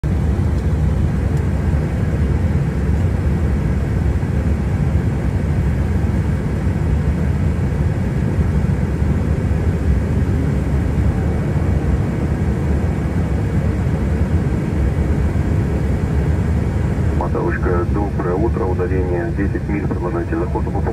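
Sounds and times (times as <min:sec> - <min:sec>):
airliner cockpit engine and airflow: 0:00.0 - 0:20.9.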